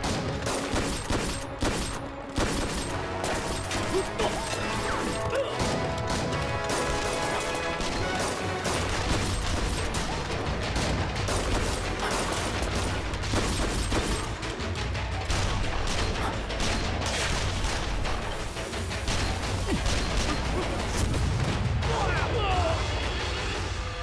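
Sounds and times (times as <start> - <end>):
rapid gunshots: 0.0 - 21.9
background music: 0.0 - 24.0.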